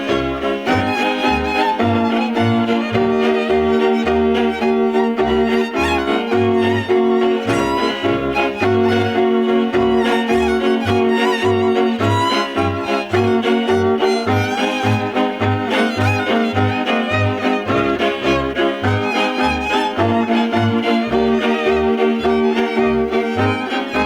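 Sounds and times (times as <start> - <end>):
double bass strokes: 0.0 - 24.0
fiddle melody: 0.0 - 24.0
viola chords: 0.0 - 24.0.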